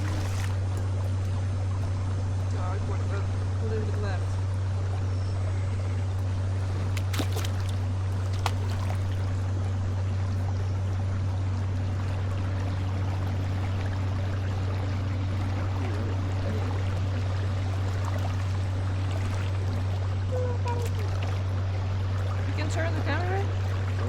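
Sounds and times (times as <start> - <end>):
steady low hum: 0.0 - 24.0
water trickling and splashing: 0.0 - 24.0.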